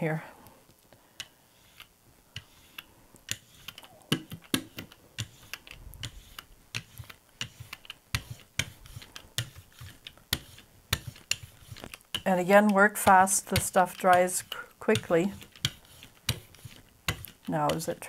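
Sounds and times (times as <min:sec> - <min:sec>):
paint roller clicking on plate: 0:01.2 - 0:18.0.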